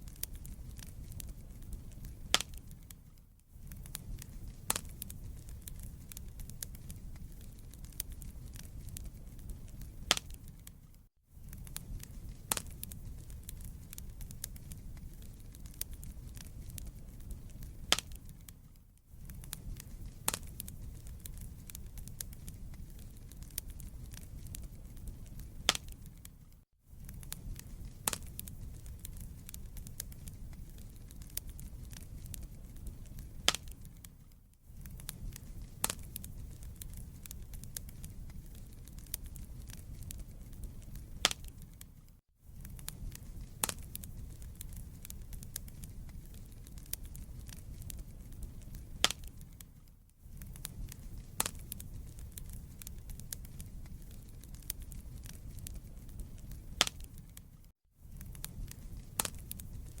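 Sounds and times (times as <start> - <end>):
fire flames rumbling: 0.0 - 60.0
logs crackling and popping: 0.0 - 60.0.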